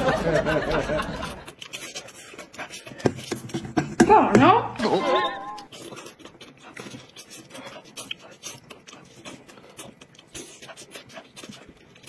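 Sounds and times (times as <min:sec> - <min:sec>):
wet chewing and lip smacking: 0:00.0 - 0:03.8, 0:05.0 - 0:12.0.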